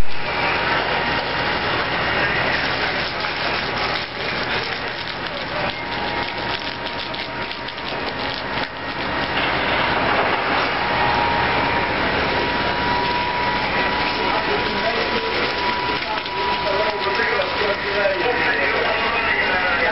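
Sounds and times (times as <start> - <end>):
crackling and snapping: 0.0 - 10.1, 12.4 - 18.5
faint steady whine: 0.0 - 19.9
spray pattering down: 0.0 - 19.9
water jet hissing: 0.0 - 19.9.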